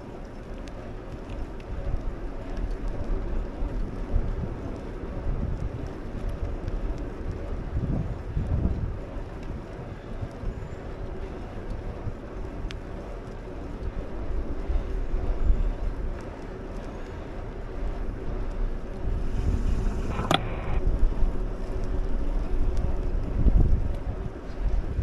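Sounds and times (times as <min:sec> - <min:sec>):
rumble of riding on pavement: 0:00.0 - 0:25.0
wind buffeting microphone: 0:00.0 - 0:25.0.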